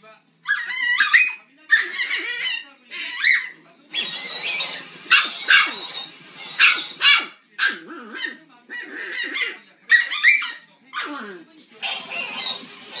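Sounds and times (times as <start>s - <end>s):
small dog yapping: 0.5s - 11.1s, 11.8s - 13.0s.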